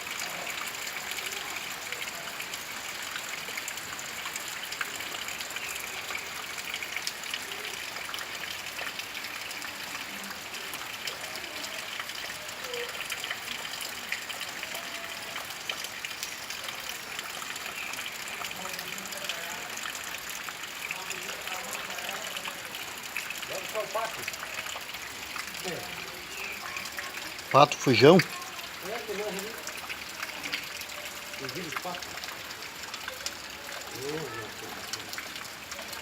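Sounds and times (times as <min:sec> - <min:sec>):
steady rain falling: 0:00.0 - 0:36.0
water running and trickling: 0:00.0 - 0:36.0.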